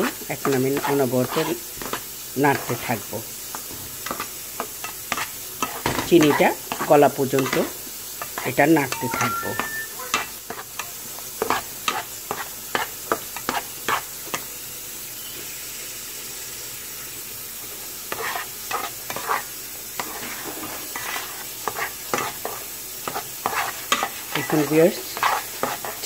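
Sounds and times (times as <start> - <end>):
metal spatula scraping a pan: 0.0 - 14.4, 18.0 - 26.0
steady sizzle: 0.0 - 26.0.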